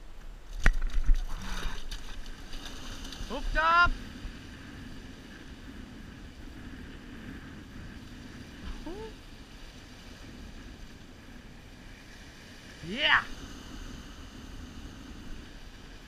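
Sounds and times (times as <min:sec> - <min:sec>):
surf washing over rocks: 0:00.5 - 0:16.0
wind buffeting microphone: 0:00.7 - 0:16.0.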